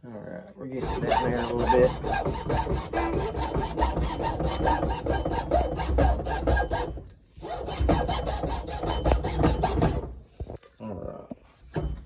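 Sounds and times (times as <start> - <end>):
hand saw cutting wood: 0.8 - 10.6.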